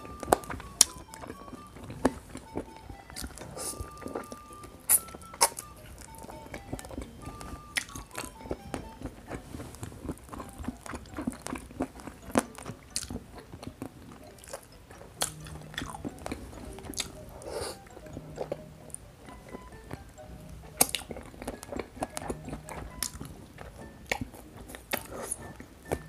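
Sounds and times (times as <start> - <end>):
chewing and biting rice: 0.0 - 26.0
light background music: 0.0 - 26.0.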